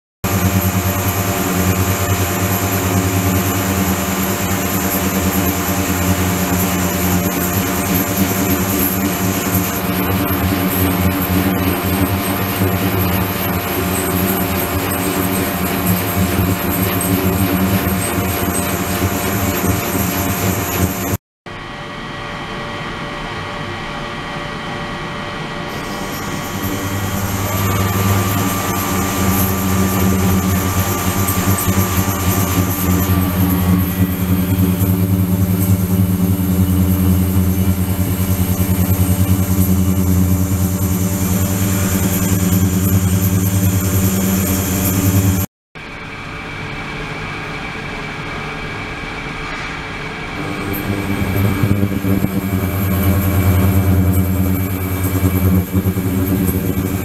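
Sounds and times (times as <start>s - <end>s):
machine hum: 0.2s - 46.0s, 48.8s - 57.0s.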